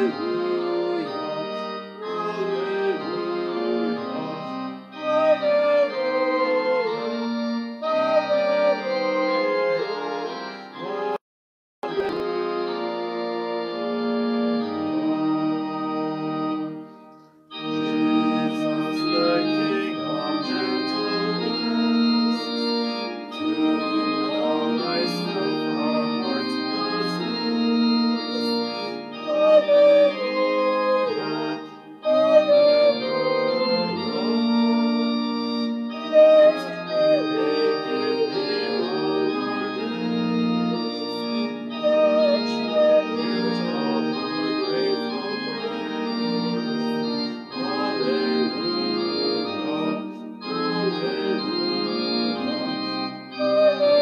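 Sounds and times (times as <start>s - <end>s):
organ playing hymn chords: 0.0s - 11.2s, 11.8s - 54.0s.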